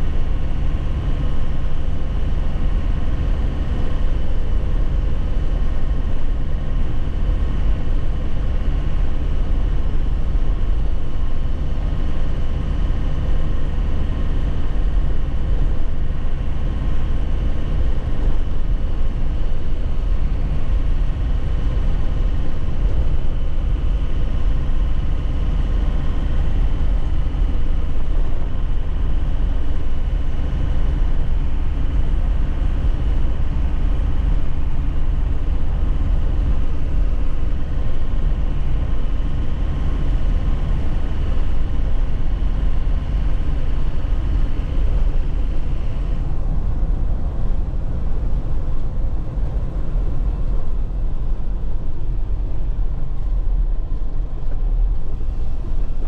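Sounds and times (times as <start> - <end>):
low rumble from rough road: 0.0 - 56.0
truck engine drone: 0.0 - 56.0.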